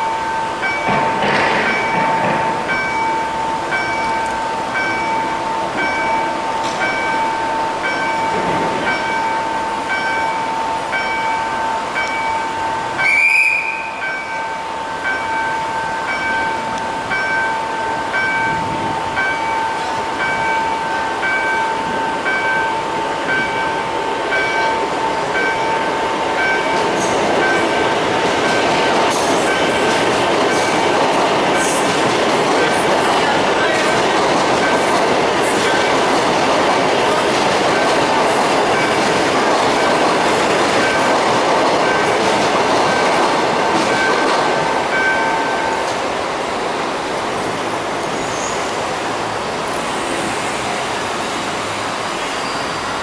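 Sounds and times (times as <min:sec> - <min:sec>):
electric train passing: 0:00.0 - 0:53.0
train wheels clicking on rail joints: 0:00.6 - 0:14.5, 0:15.1 - 0:46.2.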